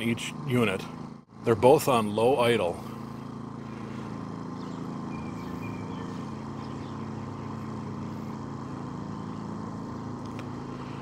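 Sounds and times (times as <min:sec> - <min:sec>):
generators idling: 0:00.0 - 0:11.0.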